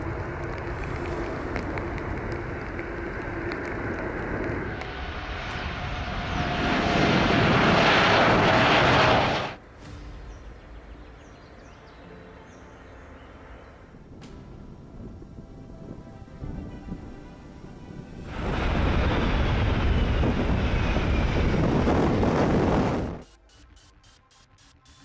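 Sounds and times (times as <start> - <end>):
jet airliner engines droning: 0.0 - 11.3, 13.4 - 23.4.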